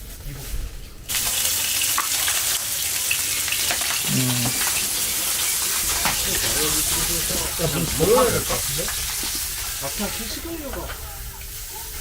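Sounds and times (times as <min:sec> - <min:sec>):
food sizzling in hot oil: 0:01.1 - 0:12.0.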